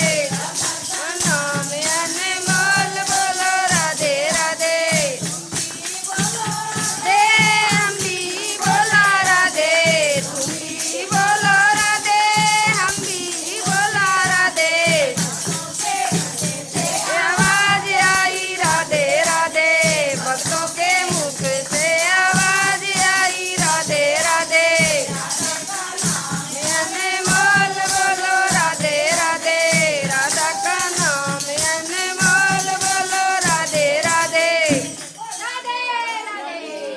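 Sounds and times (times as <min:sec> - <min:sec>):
jingling hand percussion: 0:00.0 - 0:36.9
person singing devotional song: 0:00.0 - 0:36.9.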